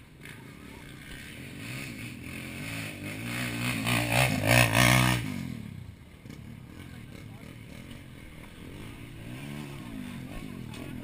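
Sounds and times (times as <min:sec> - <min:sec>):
dirt bike passing by: 0:00.0 - 0:11.0.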